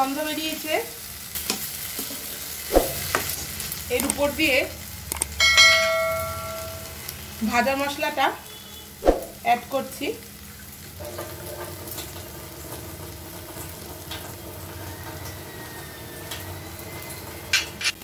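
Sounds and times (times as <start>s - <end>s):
filling frying with low sizzle: 0.0s - 18.0s.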